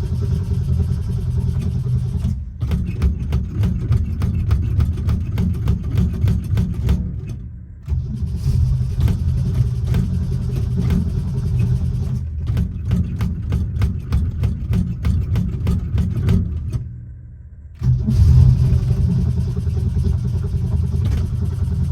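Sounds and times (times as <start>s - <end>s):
engine running roughly: 0.0s - 17.0s, 17.8s - 21.9s.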